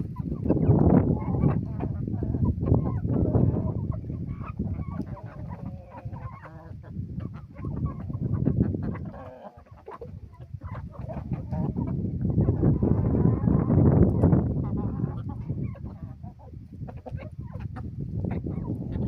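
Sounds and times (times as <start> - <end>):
hens and roosters clucking: 0.0 - 19.0.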